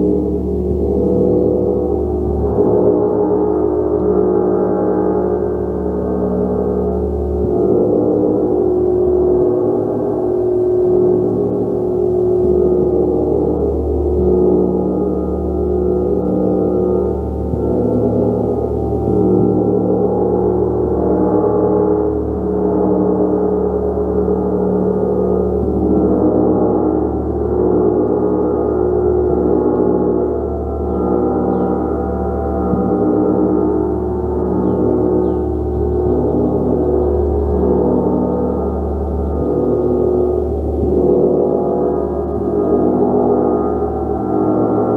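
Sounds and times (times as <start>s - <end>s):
large gong humming: 0.0s - 44.9s.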